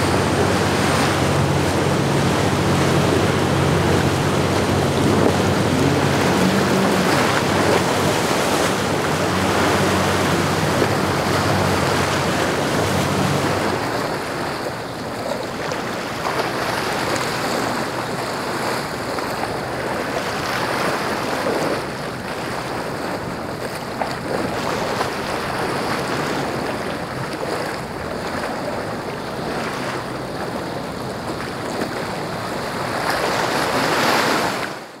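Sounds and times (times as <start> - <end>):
boat engines running: 0.0 - 35.0
wake rushing: 0.0 - 35.0
waves: 0.0 - 35.0
wind: 0.0 - 35.0.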